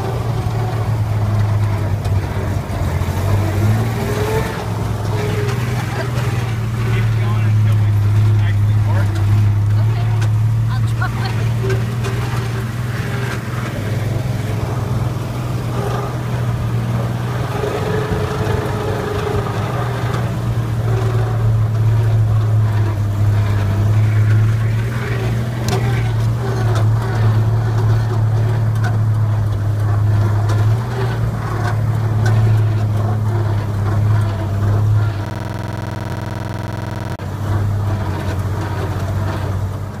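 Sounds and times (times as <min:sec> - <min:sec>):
truck engine running inside cab: 0:00.0 - 0:40.0.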